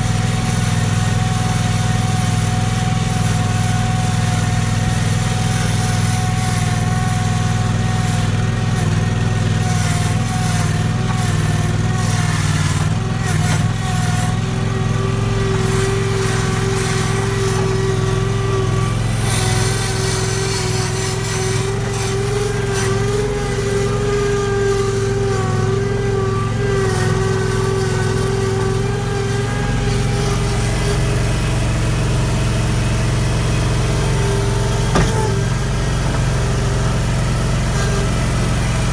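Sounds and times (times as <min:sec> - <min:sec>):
skid steer engine running: 0:00.0 - 0:38.9.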